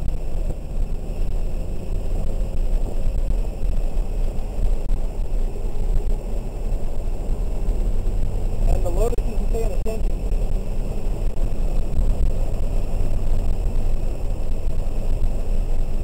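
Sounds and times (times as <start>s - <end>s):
car engine rumble inside cabin: 0.0s - 16.0s
tyres on wet road: 0.0s - 16.0s.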